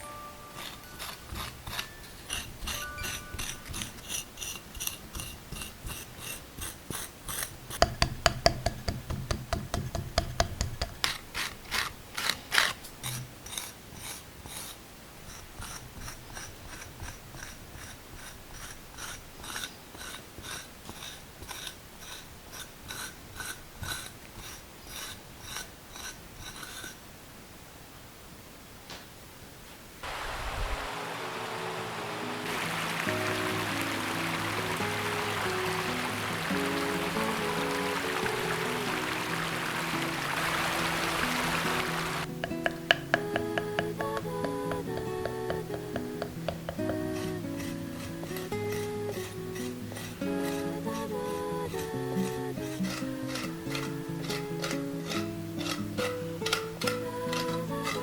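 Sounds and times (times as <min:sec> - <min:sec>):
hand tool scraping clay: 0:00.5 - 0:27.1, 0:34.9 - 0:58.0.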